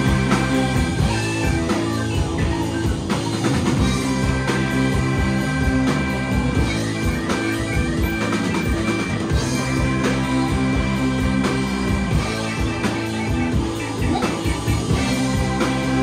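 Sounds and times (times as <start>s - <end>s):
drum kit beat: 0.0s - 16.0s
electric guitar: 0.0s - 16.0s
saxophones: 0.0s - 16.0s.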